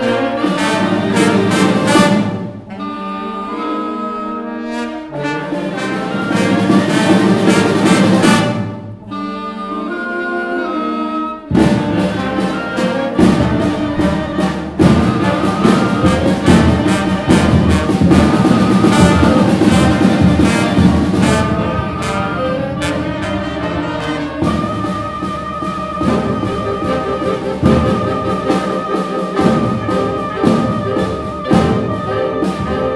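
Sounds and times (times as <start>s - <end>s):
drums and cymbals: 0.0s - 3.0s, 5.2s - 9.3s, 11.4s - 32.9s
concert band playing: 0.0s - 32.9s.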